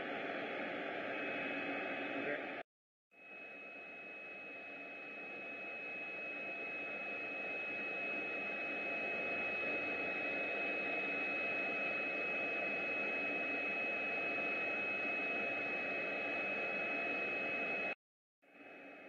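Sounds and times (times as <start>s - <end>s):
machine hiss with high whine: 0.0s - 2.4s, 3.2s - 17.9s.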